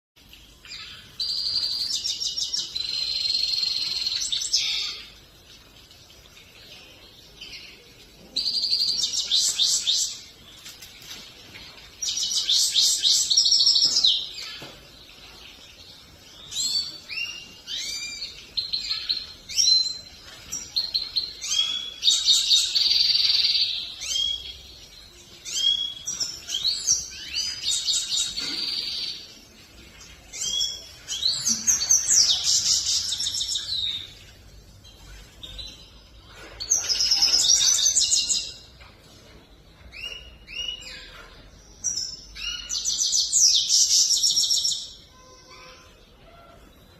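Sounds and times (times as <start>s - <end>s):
goldfinch twittering and trilling: 0.3s - 38.8s.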